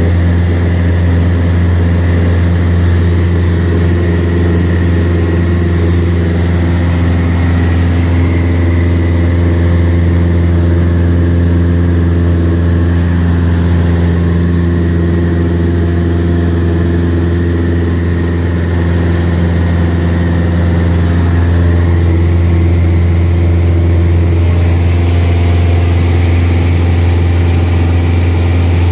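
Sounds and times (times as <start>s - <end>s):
light aircraft engine droning: 0.0s - 28.9s.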